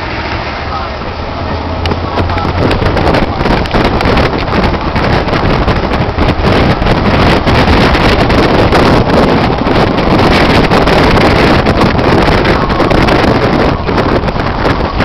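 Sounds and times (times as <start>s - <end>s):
car road noise: 0.0s - 15.0s
wind rushing over microphone: 0.0s - 15.0s.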